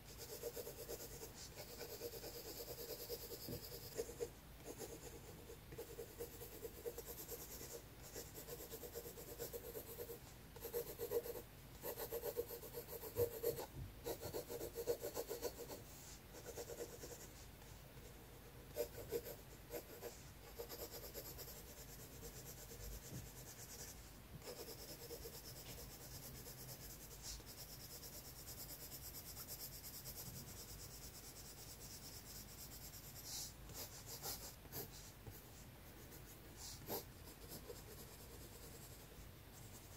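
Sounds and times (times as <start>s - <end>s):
pencil scratching on paper: 0.0s - 39.9s.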